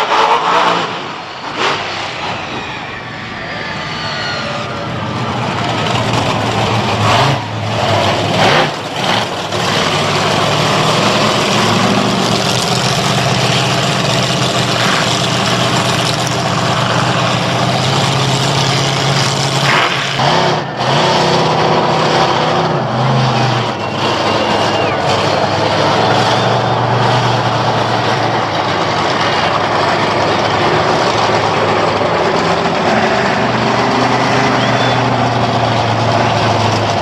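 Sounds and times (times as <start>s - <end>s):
monster truck engine revving: 0.0s - 37.0s.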